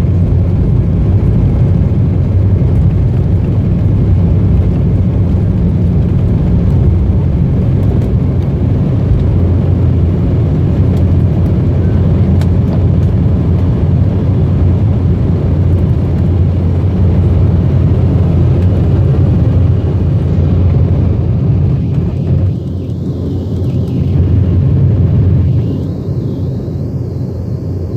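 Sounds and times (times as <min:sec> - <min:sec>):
airliner engines rumbling in cabin: 0:00.0 - 0:27.9.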